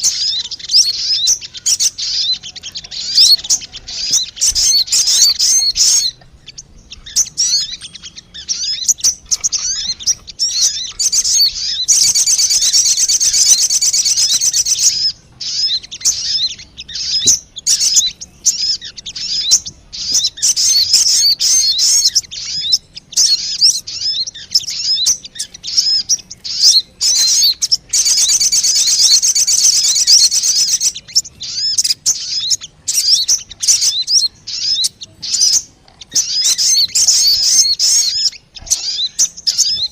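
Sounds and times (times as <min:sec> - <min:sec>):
high-pitched bird chirps: 0:00.0 - 0:39.9.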